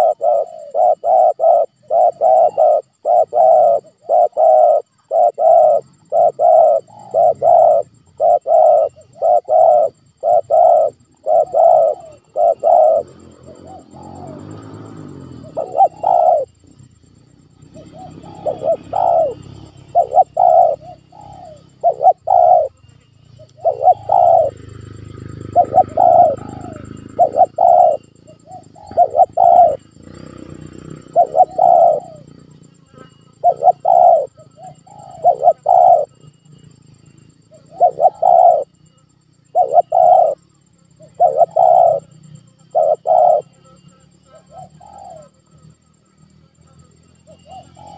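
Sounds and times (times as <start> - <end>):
dove cooing: 0.0 - 45.8, 47.1 - 47.9.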